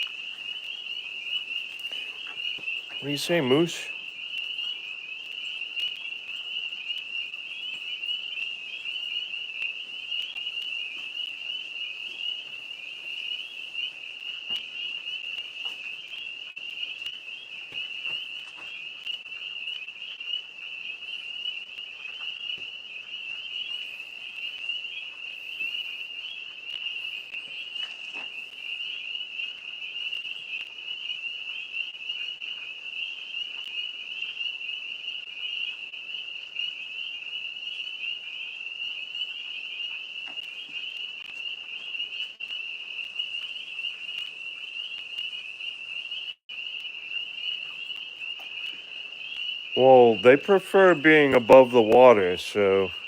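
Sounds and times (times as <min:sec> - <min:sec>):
tree frogs trilling: 0:00.0 - 0:53.0.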